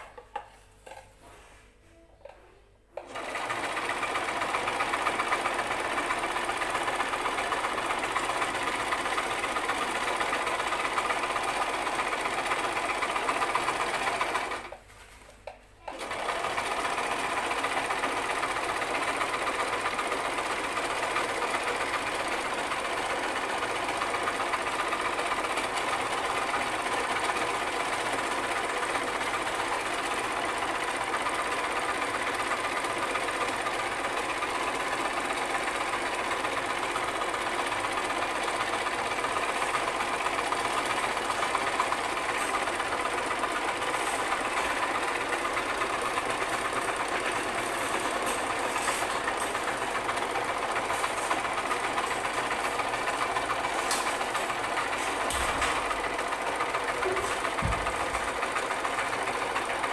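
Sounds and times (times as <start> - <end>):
sewing machine stitching: 2.2 - 14.9, 15.8 - 59.9.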